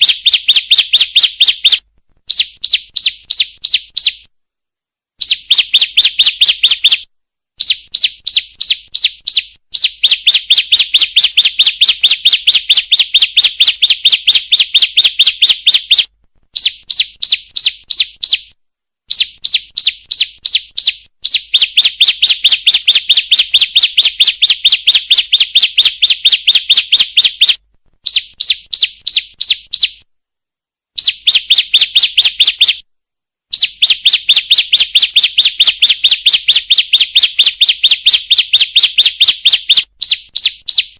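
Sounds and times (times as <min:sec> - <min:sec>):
bird calling with high chirps: 0:00.0 - 0:04.3, 0:05.2 - 0:30.1, 0:31.0 - 0:32.8, 0:33.5 - 0:40.9.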